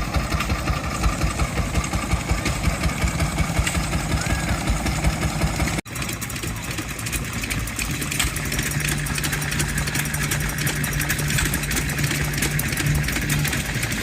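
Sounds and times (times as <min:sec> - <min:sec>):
engine running with clicking clatter: 0:00.0 - 0:14.0.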